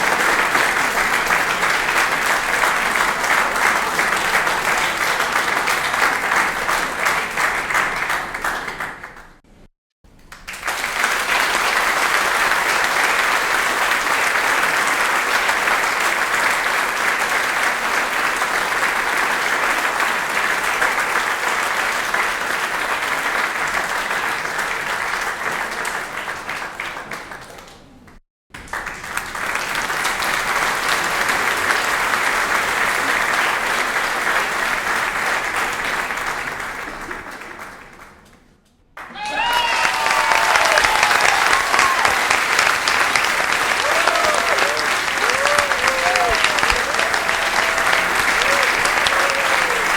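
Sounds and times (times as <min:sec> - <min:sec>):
audience applause: 0:00.0 - 0:09.4, 0:10.3 - 0:28.0, 0:28.6 - 0:38.2, 0:39.0 - 0:49.9.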